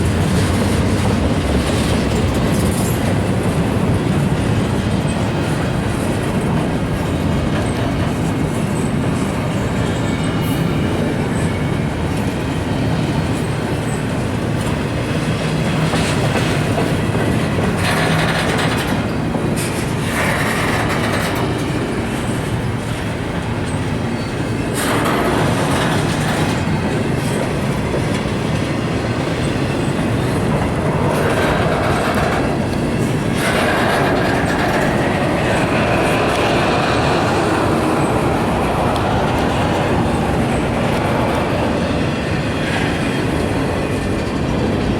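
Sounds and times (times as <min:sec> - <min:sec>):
freight train rolling past: 0:00.0 - 0:44.9
wheels clickety-clack on rails: 0:00.0 - 0:44.9.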